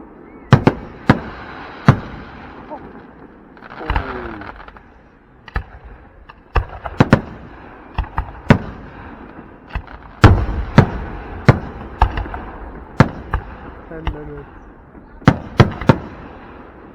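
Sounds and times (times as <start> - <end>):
fireworks bangs: 0.0 - 16.9.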